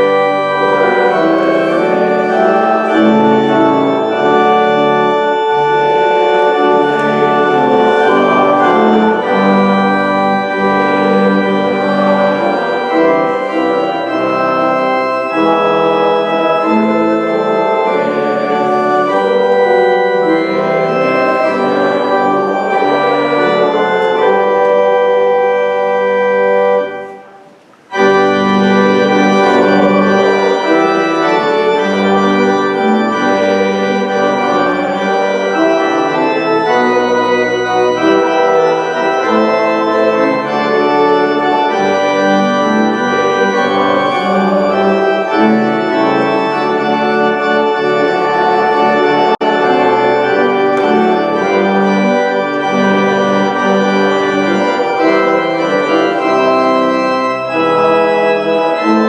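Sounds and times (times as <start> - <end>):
organ playing chords: 0.0 - 59.0.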